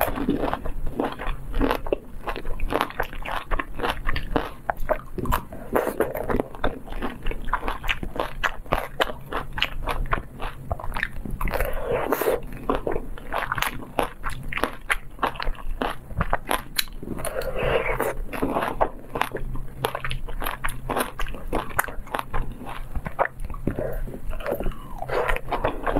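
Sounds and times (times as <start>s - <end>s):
crunching hard candy: 0.0s - 25.9s.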